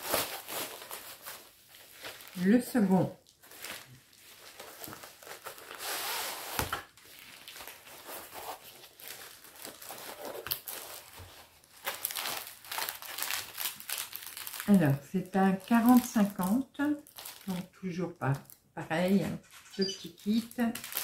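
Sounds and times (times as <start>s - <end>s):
packaging crinkling and rustling: 0.0s - 18.6s, 20.0s - 21.0s.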